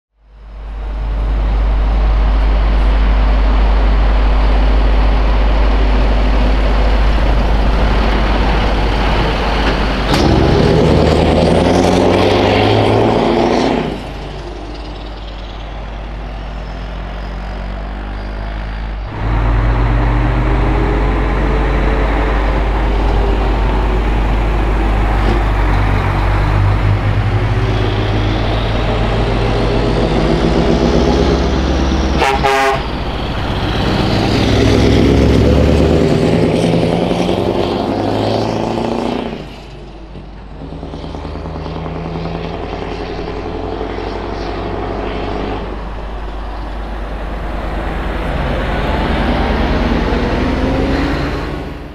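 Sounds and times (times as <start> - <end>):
diesel truck engine accelerating: 0.2 - 51.9.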